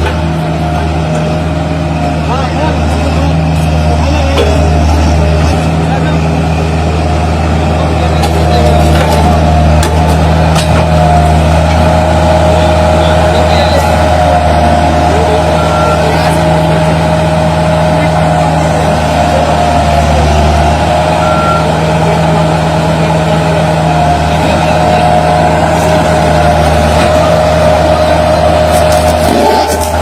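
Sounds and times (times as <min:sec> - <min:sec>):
bulldozer diesel engine running: 0:00.0 - 0:30.0
continuous high tone: 0:02.0 - 0:30.0.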